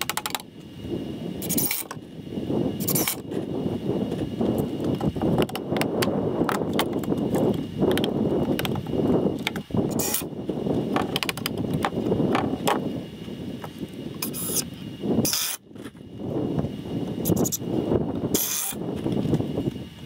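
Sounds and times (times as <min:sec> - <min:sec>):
low rumbling noise: 0:00.0 - 0:20.0.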